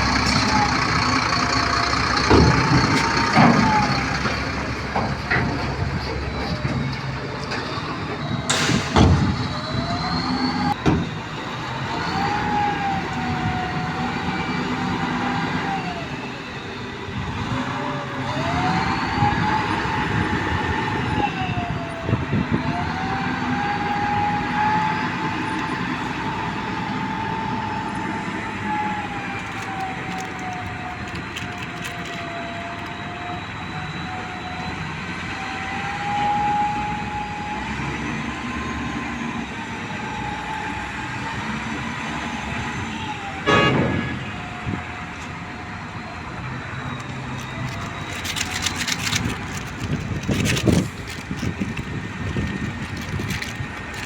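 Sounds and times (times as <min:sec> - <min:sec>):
engine drone: 0:00.0 - 0:54.0
heavy machinery whine: 0:00.0 - 0:54.0.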